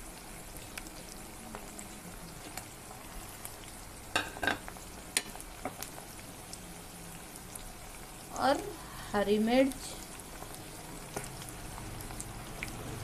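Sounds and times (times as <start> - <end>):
meat and onions sizzling in oil: 0.0 - 13.0.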